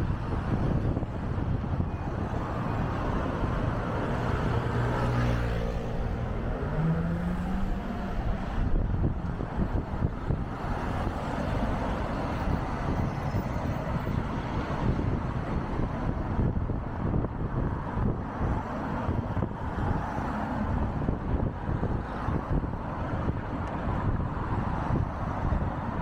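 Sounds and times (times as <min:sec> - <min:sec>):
road rumble: 0:00.0 - 0:26.0.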